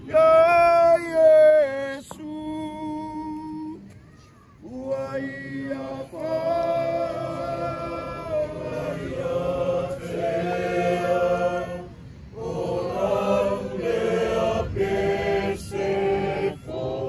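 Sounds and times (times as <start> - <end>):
group singing a slow hymn: 0.0 - 3.9, 4.6 - 17.0.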